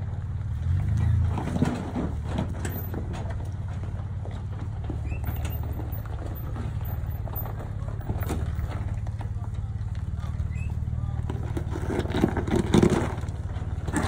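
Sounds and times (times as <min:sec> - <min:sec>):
engine running at low revs: 0:00.0 - 0:14.0
knocks and rattles: 0:00.8 - 0:14.0.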